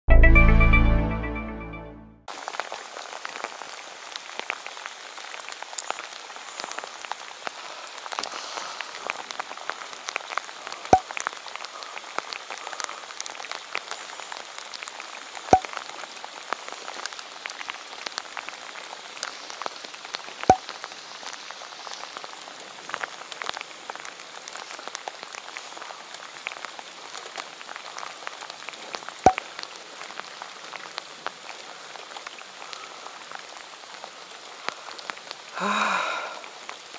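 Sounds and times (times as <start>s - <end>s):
heavy rain on water: 2.3s - 36.9s.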